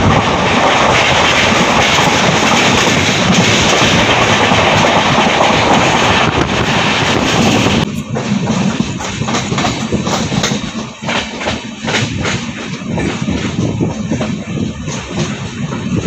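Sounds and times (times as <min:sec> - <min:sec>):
rail clatter clicks and knocks: 0:00.0 - 0:16.0
train wheel and rail noise: 0:00.0 - 0:16.0.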